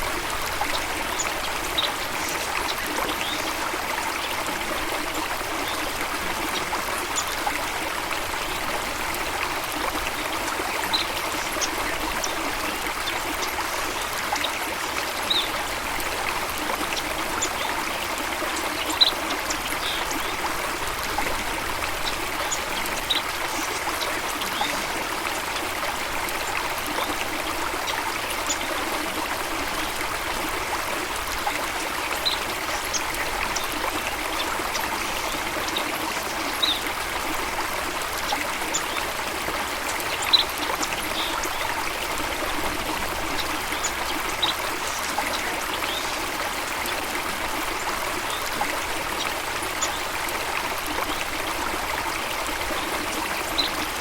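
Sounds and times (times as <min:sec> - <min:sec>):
stream water trickling and splashing: 0:00.0 - 0:54.0.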